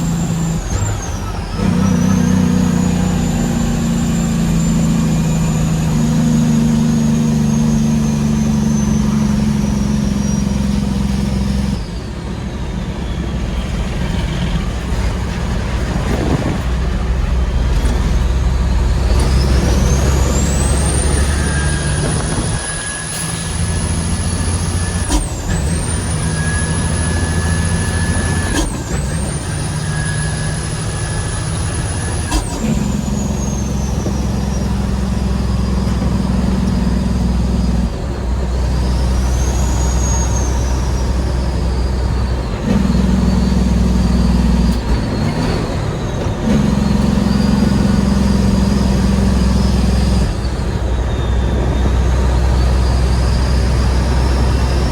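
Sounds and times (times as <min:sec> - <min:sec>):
turbo whistle whine: 0:00.0 - 0:16.6, 0:17.3 - 0:54.9
diesel truck engine pulling: 0:00.0 - 0:54.9.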